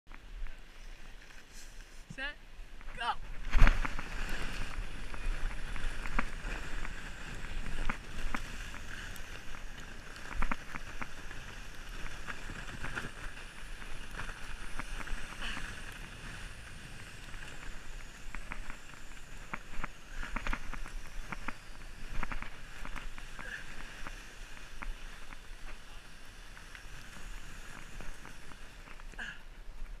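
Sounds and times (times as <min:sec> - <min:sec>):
sled scraping over snow: 0:02.6 - 0:30.0.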